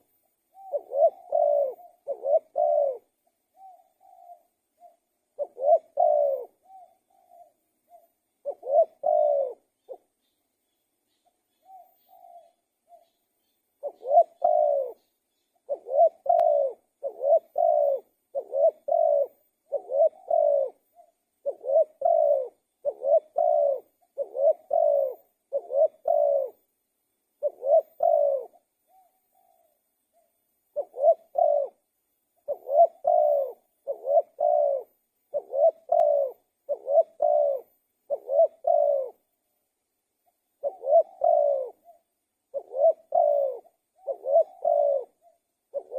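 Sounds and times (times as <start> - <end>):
dove cooing: 0.0 - 10.4, 11.1 - 26.7, 27.4 - 39.4, 40.2 - 45.9.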